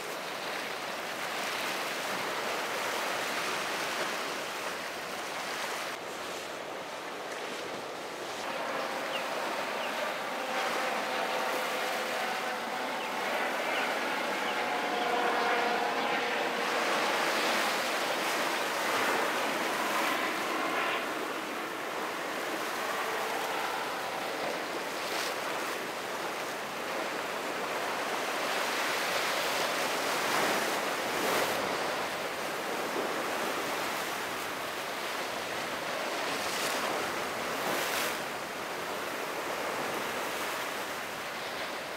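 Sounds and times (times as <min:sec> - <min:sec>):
faint boat motors humming: 0:00.1 - 0:41.9
ocean surf breaking: 0:01.2 - 0:41.9.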